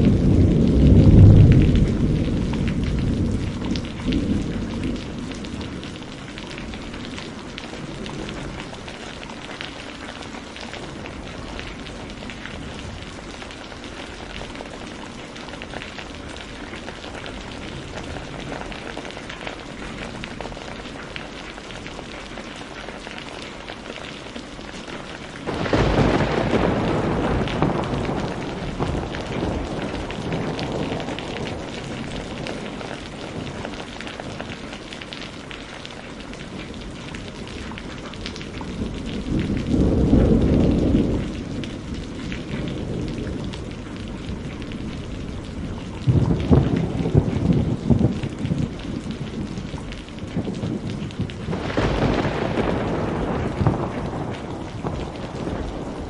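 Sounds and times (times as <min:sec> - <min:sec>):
thunder rumble: 0:00.0 - 0:21.2, 0:24.9 - 0:34.8, 0:36.5 - 0:56.0
rain hissing on a surface: 0:00.0 - 0:56.0.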